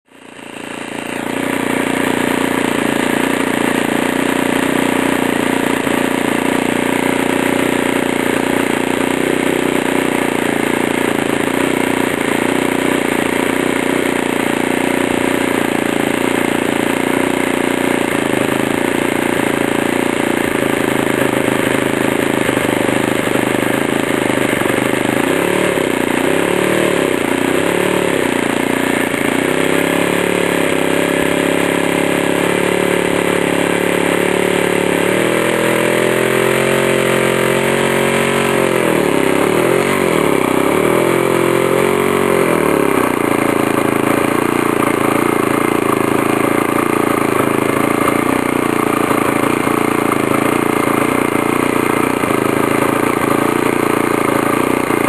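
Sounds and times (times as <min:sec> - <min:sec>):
model airplane engine running: 0:00.0 - 0:55.0.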